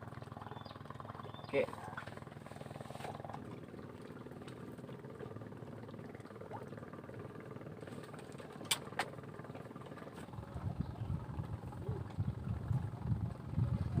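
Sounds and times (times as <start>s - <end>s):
motor running: 0.0s - 14.0s.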